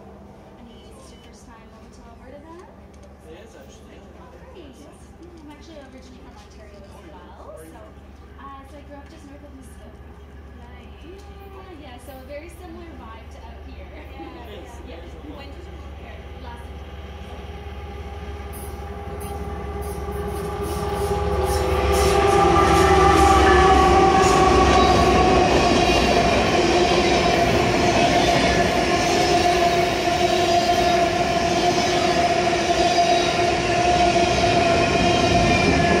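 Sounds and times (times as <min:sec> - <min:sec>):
train wheels on rails: 0:00.0 - 0:36.0
diesel locomotive rumble: 0:04.7 - 0:36.0.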